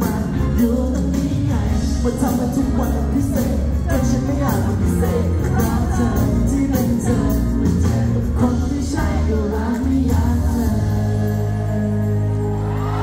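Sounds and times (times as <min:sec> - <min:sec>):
amplified band with steady beat: 0:00.0 - 0:13.0
man singing a pop song: 0:00.0 - 0:13.0.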